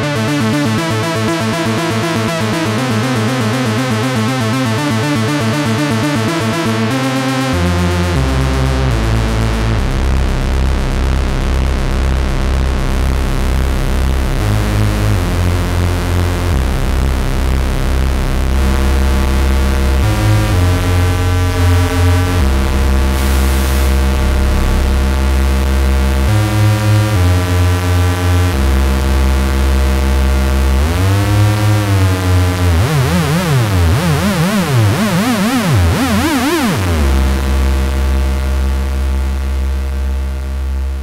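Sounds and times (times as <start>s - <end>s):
low synthesizer notes gliding: 0.0s - 41.0s.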